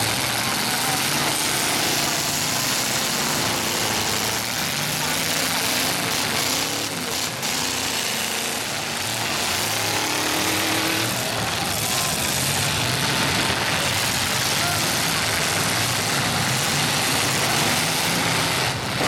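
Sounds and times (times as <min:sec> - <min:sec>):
car engines revving: 0:00.0 - 0:19.0
crowd voices: 0:00.0 - 0:19.0.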